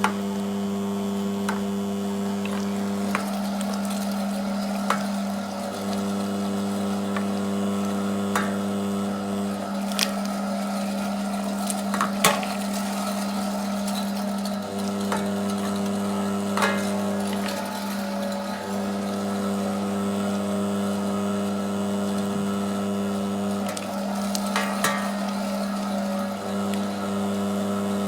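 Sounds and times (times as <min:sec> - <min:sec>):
meat grinder motor hum: 0:00.0 - 0:28.0.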